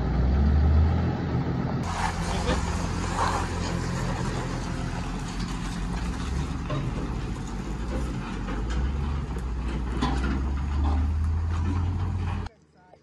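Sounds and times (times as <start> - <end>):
tractor engine running: 1.1 - 12.5.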